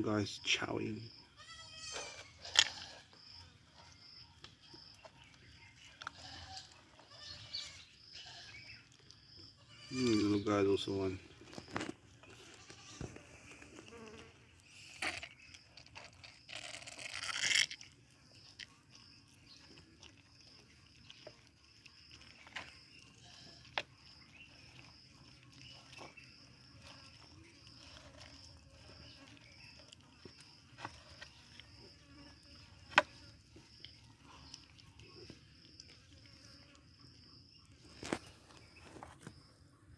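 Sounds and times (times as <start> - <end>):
high insect drone: 0.0 - 39.6
tortoises chewing: 0.0 - 39.9.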